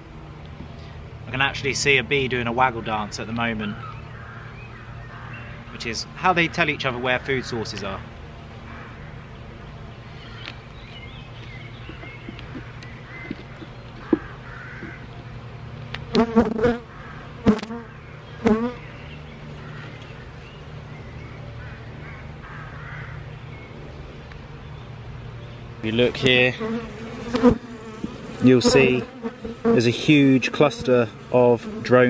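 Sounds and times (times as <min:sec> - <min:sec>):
bees buzzing: 0:00.0 - 0:32.0.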